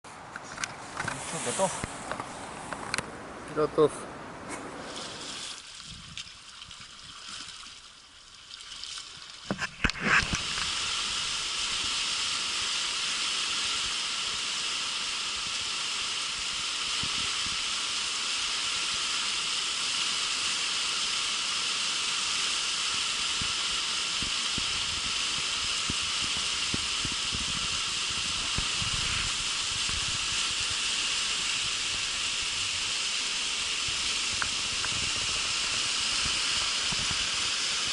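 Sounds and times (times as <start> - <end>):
rushing river whitewater: 1.1 - 5.6, 10.3 - 37.9.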